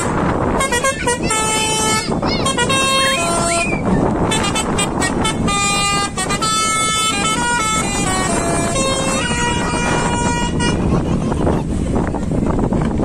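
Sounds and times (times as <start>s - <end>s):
multi-tone musical air horn: 0.0s - 11.0s.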